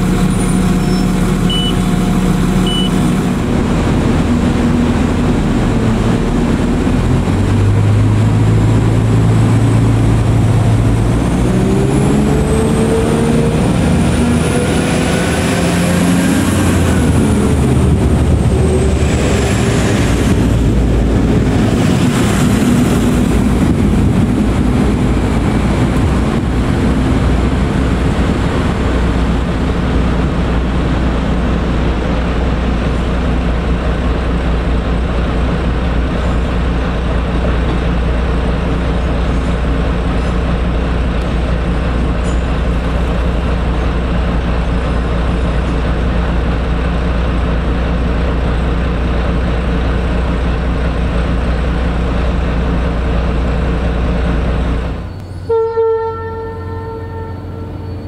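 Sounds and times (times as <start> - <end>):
diesel train engine accelerating: 0.0 - 58.0
wheel and rail noise: 0.0 - 58.0.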